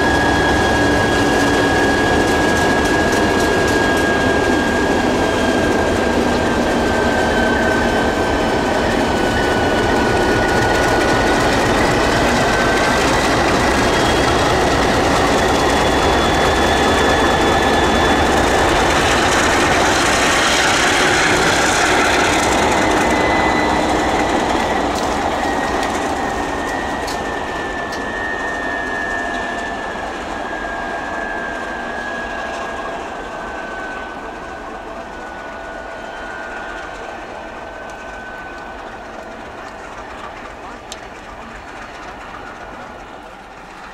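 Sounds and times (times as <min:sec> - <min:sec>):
diesel locomotives rumbling: 0:00.0 - 0:43.9.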